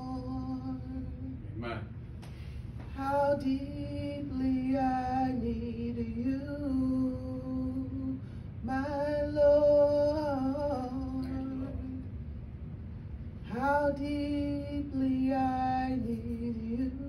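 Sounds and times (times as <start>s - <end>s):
woman singing worship song: 0.0s - 1.6s, 2.3s - 12.2s, 13.4s - 17.0s.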